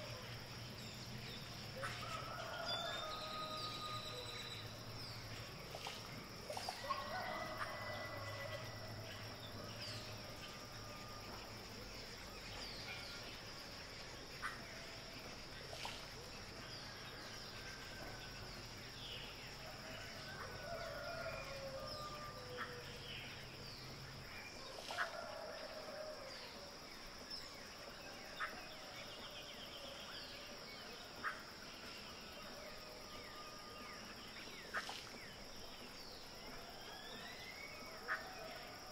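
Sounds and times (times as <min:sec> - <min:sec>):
birds calling and chirping: 0:00.0 - 0:38.9.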